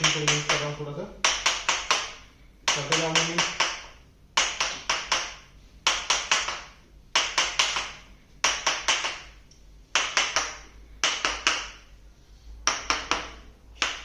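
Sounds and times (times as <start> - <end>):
sharp slapping taps: 0.0 - 9.3, 9.9 - 11.8, 12.6 - 14.0.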